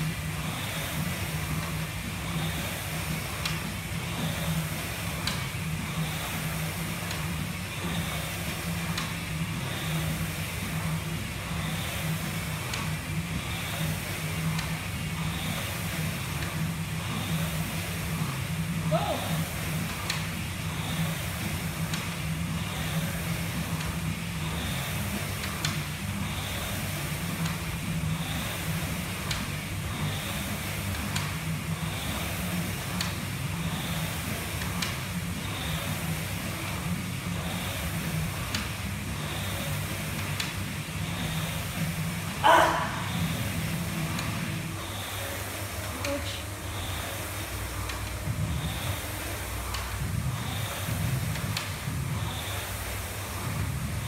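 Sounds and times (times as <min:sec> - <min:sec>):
constant low drone: 0:00.0 - 0:54.0
rowing machine fan flywheel whirring: 0:00.0 - 0:54.0.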